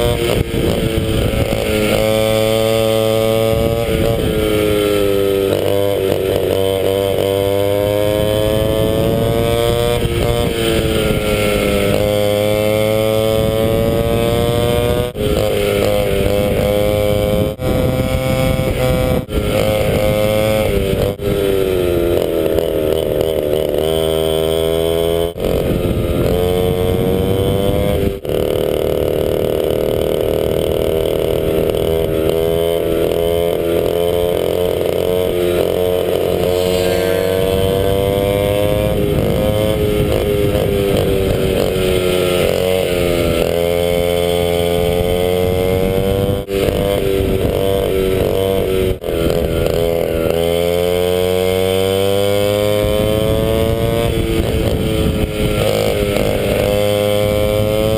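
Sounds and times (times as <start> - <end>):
kart engine revving: 0.0 - 57.9.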